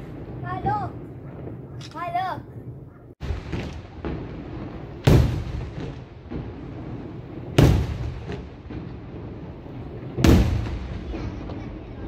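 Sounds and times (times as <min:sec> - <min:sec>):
firework booms echoing: 0:00.0 - 0:01.8, 0:02.4 - 0:12.0
smaller firework bangs: 0:00.0 - 0:12.0.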